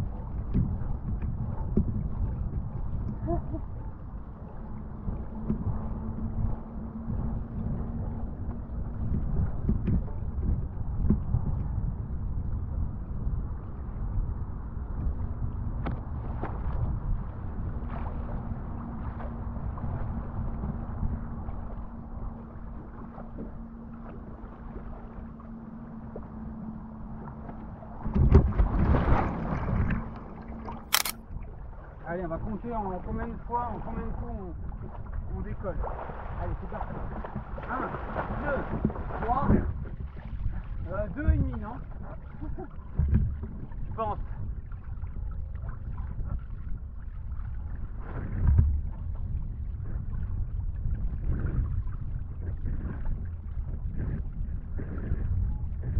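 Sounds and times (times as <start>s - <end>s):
wind noise on microphone: 0.0s - 25.0s, 26.1s - 55.9s
water swishing and splashing: 0.0s - 55.9s.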